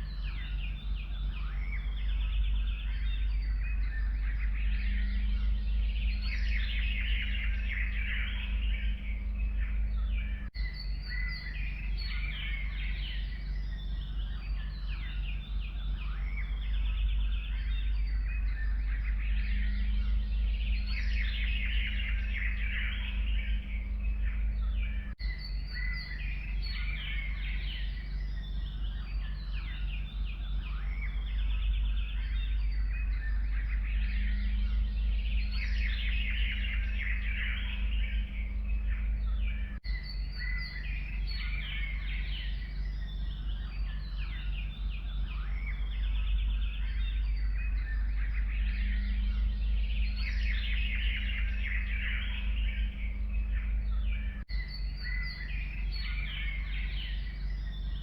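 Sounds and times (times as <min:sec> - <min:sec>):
low rumble: 0:00.0 - 0:58.0
songbirds chirping and trilling: 0:00.0 - 0:58.0.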